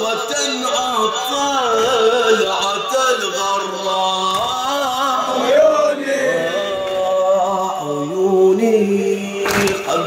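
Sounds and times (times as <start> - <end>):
man chanting a lament: 0.0 - 10.0.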